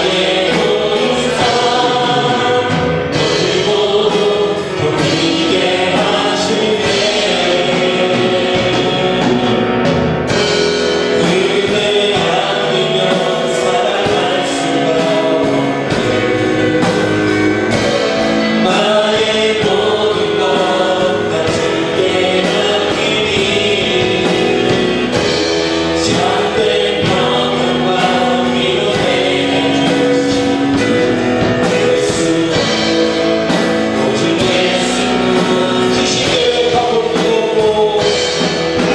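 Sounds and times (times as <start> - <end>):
band playing steady beat: 0.0 - 38.9
choir singing worship song: 0.0 - 38.9.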